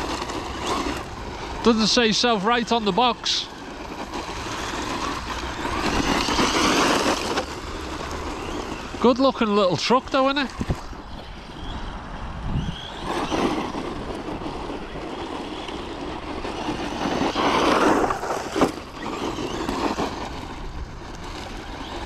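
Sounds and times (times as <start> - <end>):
toy truck motor rushing: 0.0 - 22.0.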